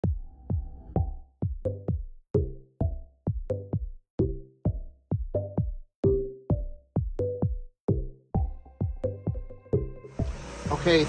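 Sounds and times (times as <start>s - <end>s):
electronic music with drum machine: 0.0s - 11.0s.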